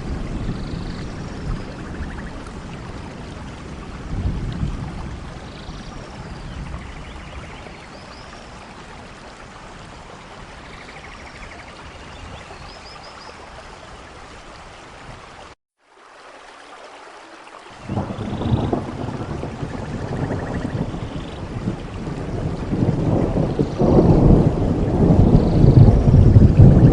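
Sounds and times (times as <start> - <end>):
rain hiss: 0.0 - 26.9.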